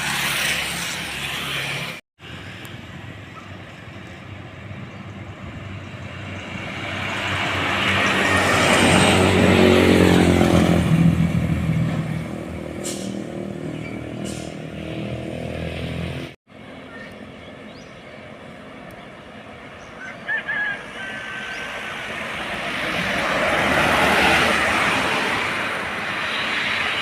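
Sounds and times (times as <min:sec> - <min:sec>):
diesel truck passing by: 0:00.0 - 0:27.0.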